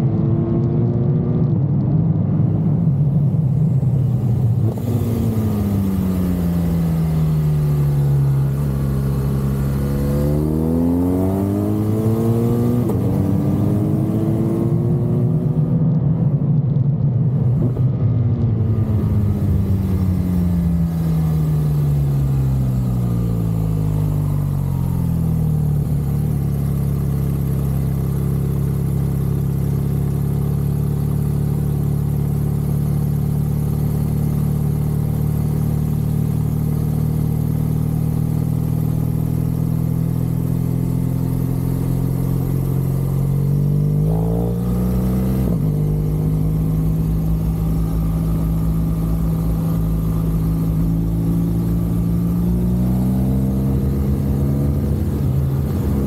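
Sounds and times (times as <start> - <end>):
motorcycle engine: 2.6 - 16.2, 17.2 - 56.0.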